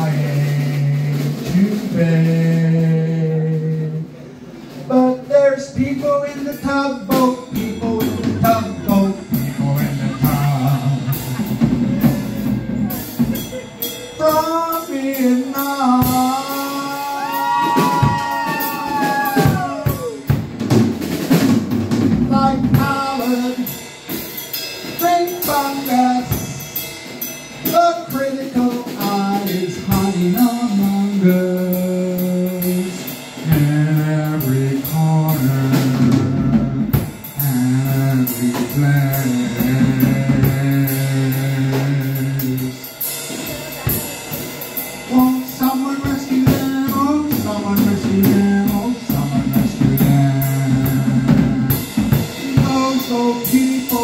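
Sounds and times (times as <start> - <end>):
bass line: 0.0 - 24.1, 27.6 - 54.0
drum kit: 0.0 - 54.0.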